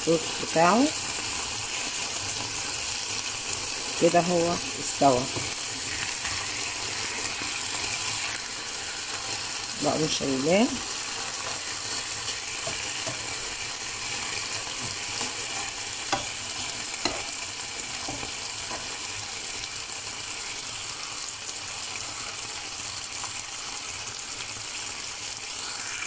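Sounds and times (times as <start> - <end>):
meat sizzling in frying pan: 0.0 - 26.0.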